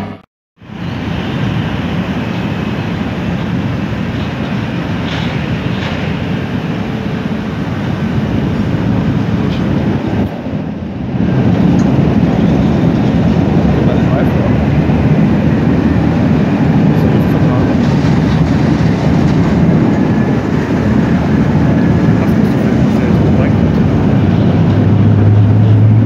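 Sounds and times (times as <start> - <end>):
jet engine rumble: 0.0 - 26.0.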